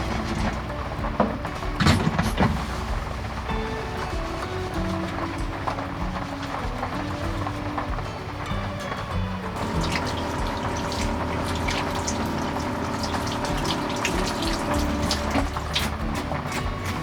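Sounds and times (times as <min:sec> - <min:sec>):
heavy rain splattering: 0:00.0 - 0:17.0.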